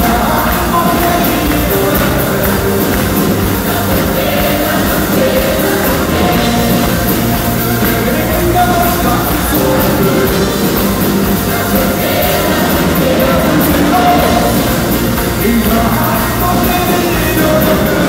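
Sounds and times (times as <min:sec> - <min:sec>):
choir singing: 0:00.0 - 0:18.0
rock band playing: 0:00.0 - 0:18.0.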